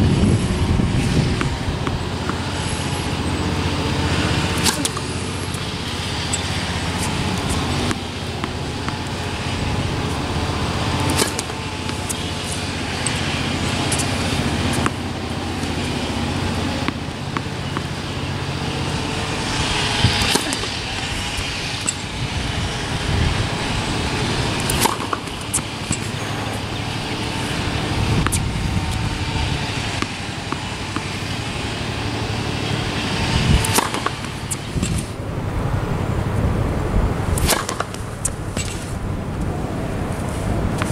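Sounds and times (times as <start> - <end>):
road traffic hum: 0.0 - 40.9
racket striking tennis ball: 0.2 - 35.2, 37.3 - 39.0, 39.8 - 40.9.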